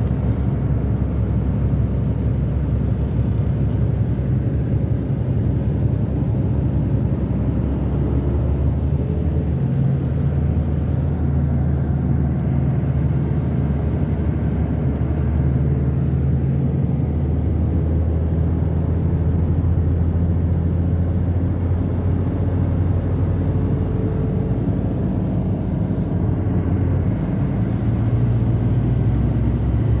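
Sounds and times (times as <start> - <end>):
car engine drone: 0.0 - 30.0
road noise: 0.0 - 30.0.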